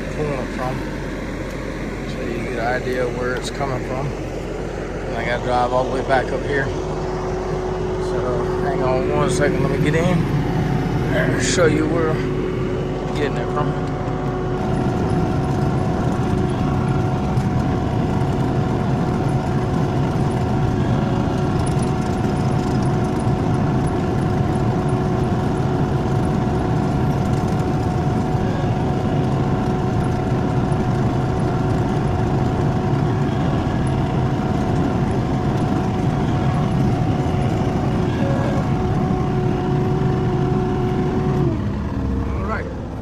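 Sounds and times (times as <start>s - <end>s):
loader engine running: 0.0s - 43.0s
steady whine: 0.0s - 43.0s.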